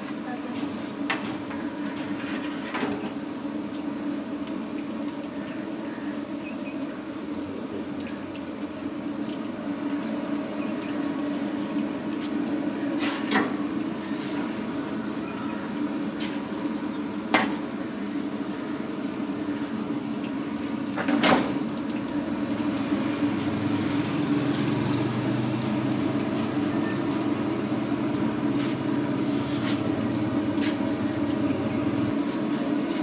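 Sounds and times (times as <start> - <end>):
frying in hot oil: 0.0 - 33.0
steady hum: 0.0 - 33.0.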